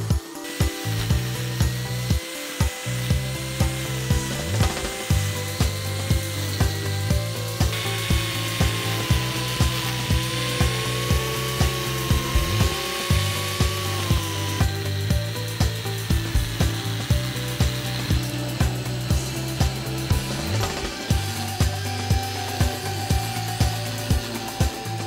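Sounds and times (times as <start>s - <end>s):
background music with steady beat: 0.0s - 25.0s
grass cutter whine cutting grass: 0.0s - 25.0s.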